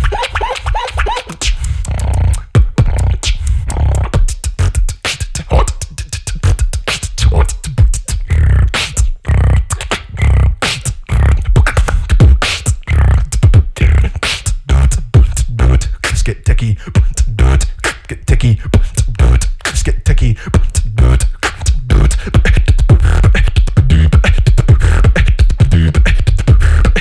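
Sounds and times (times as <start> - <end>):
beatboxing into microphone: 0.0 - 27.0.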